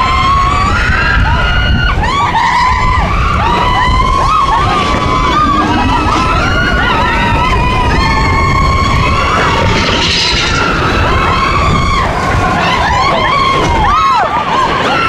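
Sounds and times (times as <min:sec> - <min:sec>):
high-pitched squeals and cries: 0:00.0 - 0:15.0
roller coaster rumbling on track: 0:00.0 - 0:15.0.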